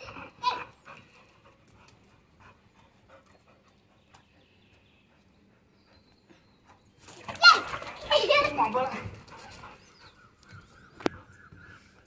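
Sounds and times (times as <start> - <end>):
dog panting: 0.0 - 7.1, 7.7 - 11.7.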